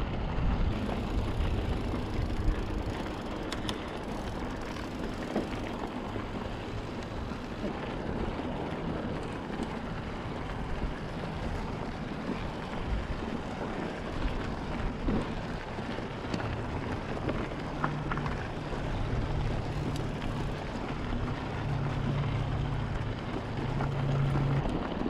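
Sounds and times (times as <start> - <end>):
bike tyres on dirt road: 0.0 - 25.0.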